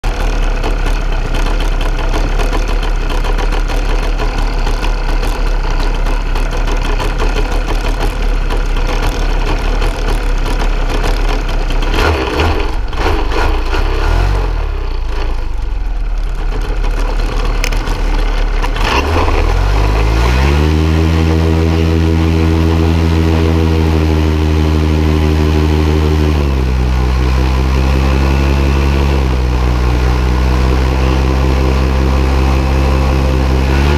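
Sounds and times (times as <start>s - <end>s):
paramotor engine: 0.0s - 33.9s.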